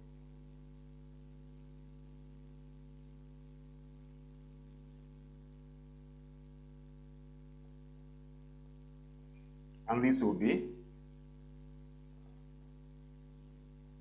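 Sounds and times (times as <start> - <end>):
faint mains hum: 0.0 - 14.0.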